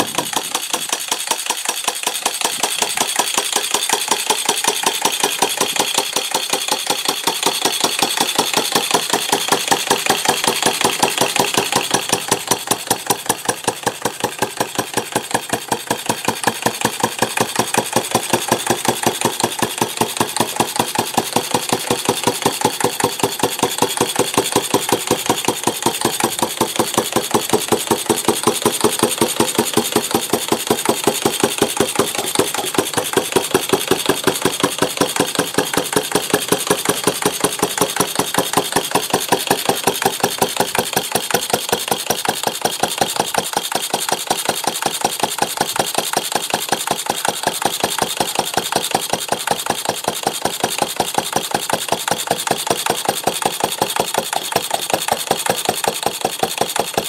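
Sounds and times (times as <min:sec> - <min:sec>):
stationary engine running: 0:00.0 - 0:57.0.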